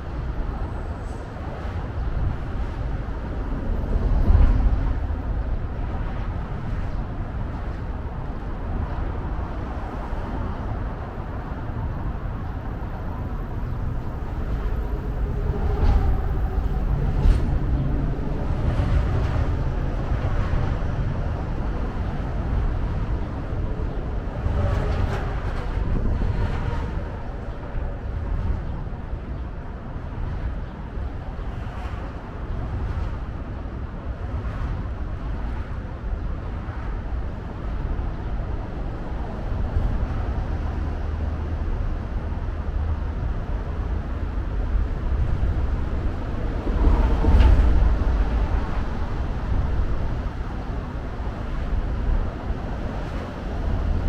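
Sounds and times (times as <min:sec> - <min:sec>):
low traffic rumble: 0:00.0 - 0:54.0.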